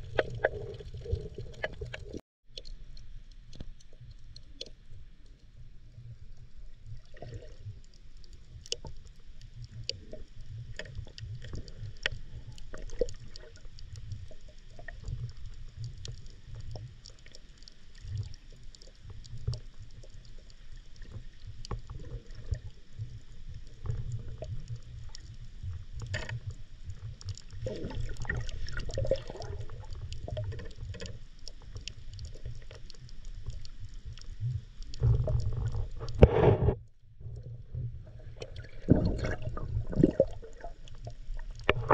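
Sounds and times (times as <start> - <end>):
sharp clicks and crackles: 0.0 - 37.6, 38.4 - 41.9
muffled underwater rumble: 0.0 - 41.9.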